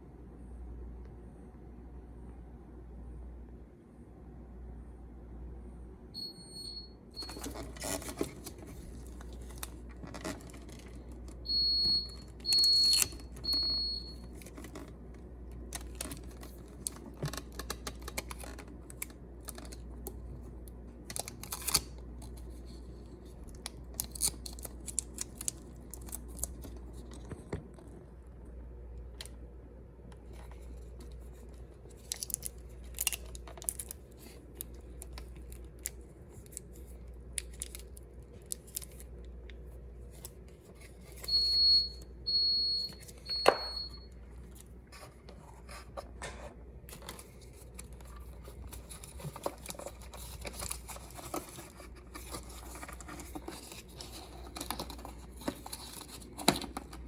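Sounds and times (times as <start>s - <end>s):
low steady hum: 0.0s - 57.0s
clicks and rustles: 7.2s - 28.0s, 30.1s - 41.7s, 42.8s - 57.0s.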